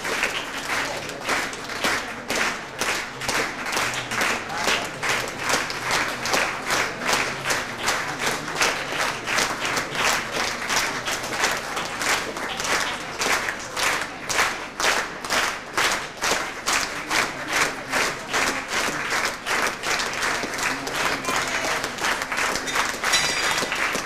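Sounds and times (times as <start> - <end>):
audience clapping in rhythm: 0.0 - 24.0.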